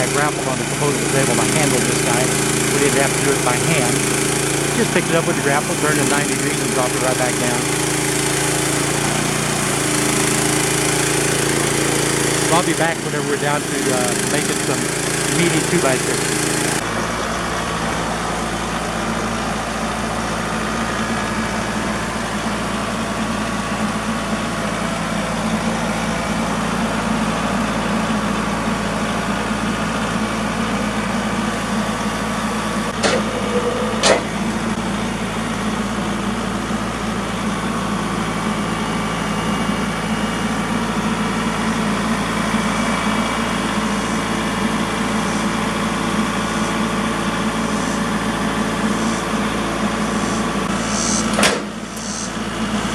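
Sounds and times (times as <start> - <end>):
band sawmill running: 0.0 - 52.9.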